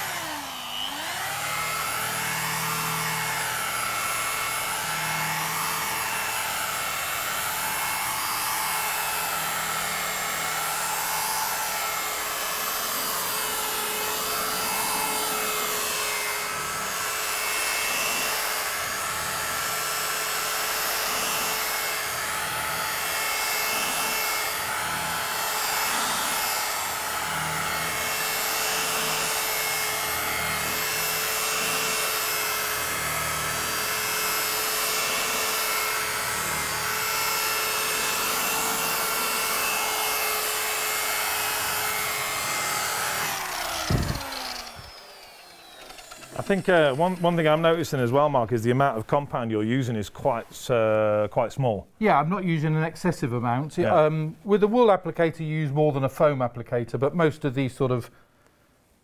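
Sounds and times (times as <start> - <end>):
rotary polisher whining: 0.0 - 48.1.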